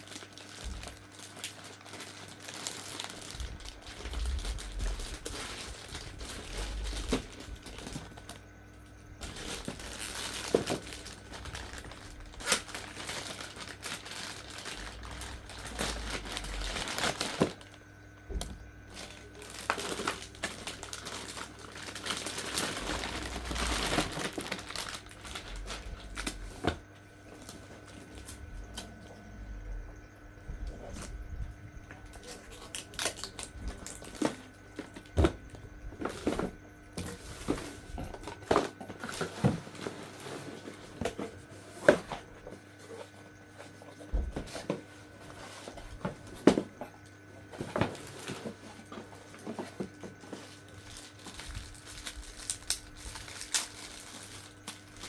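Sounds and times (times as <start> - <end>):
packaging crinkling and rustling: 0.0 - 8.6, 9.2 - 29.0, 30.7 - 55.0
faint steady hum: 0.0 - 55.0.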